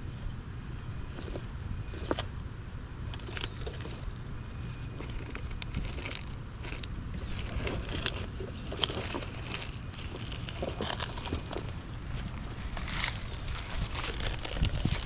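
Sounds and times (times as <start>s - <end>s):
steady low rumble: 0.0s - 15.0s
rc truck tires crunching: 0.7s - 2.4s, 3.0s - 15.0s.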